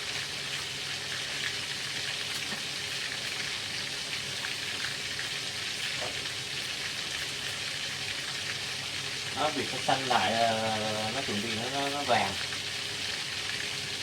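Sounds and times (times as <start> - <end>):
meat deep-frying in hot oil: 0.0 - 14.0.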